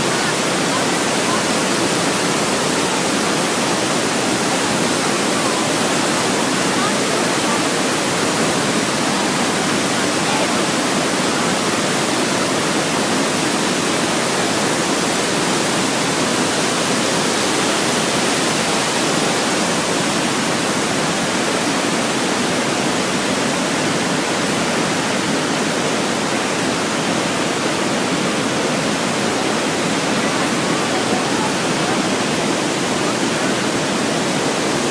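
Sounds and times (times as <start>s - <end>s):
waterfall pouring and crashing: 0.0s - 34.9s.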